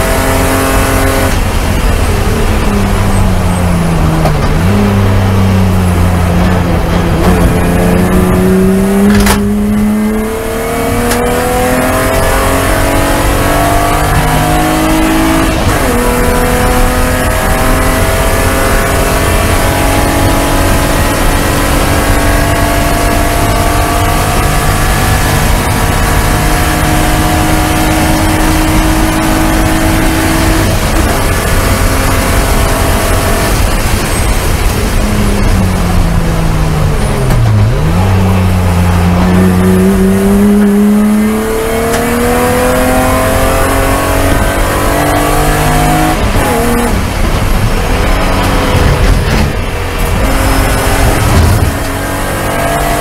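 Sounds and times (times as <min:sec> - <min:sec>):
race car engine at full throttle: 0:00.0 - 0:53.0.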